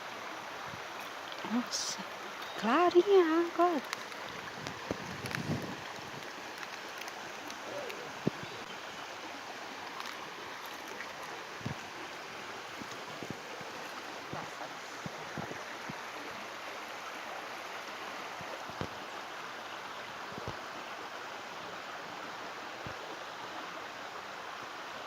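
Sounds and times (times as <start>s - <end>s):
water flowing over rocks: 0.0s - 25.0s.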